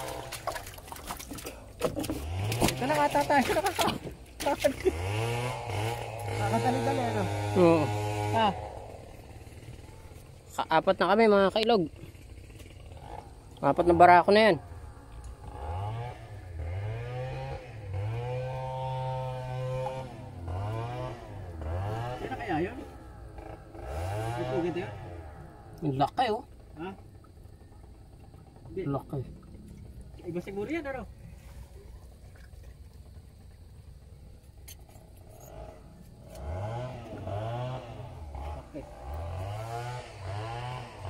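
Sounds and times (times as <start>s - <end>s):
small engine revving: 0.0s - 0.7s, 2.0s - 29.2s, 34.6s - 41.0s.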